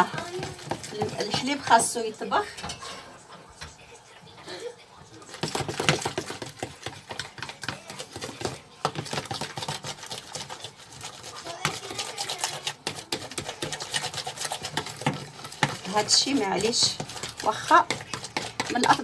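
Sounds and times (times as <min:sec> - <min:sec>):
metal utensil scraping plastic tub: 0:00.0 - 0:03.2, 0:05.2 - 0:19.0.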